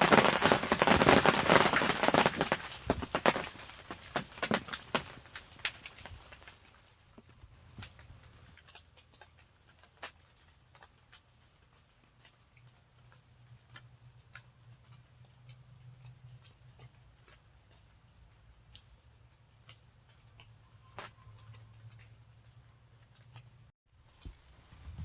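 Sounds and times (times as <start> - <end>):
water drips on leaves: 0.0 - 24.8.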